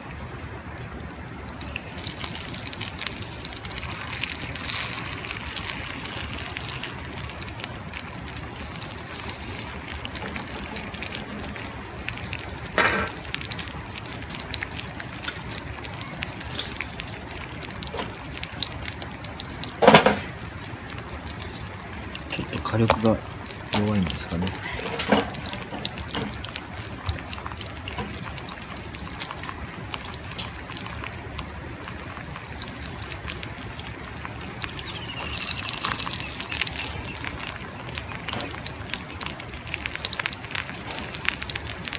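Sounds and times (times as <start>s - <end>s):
fish sizzling on a grill: 0.0s - 41.9s.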